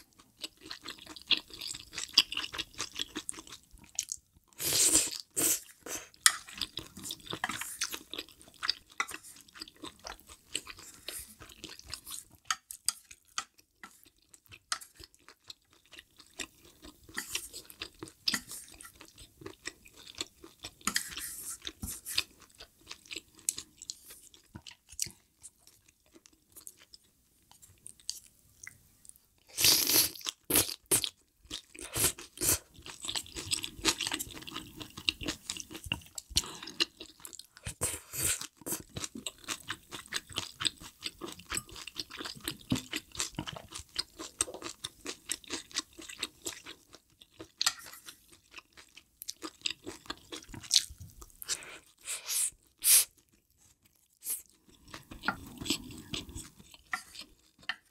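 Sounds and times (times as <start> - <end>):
wet chewing and crunching: 0.0 - 21.0, 21.6 - 52.0, 52.6 - 57.9.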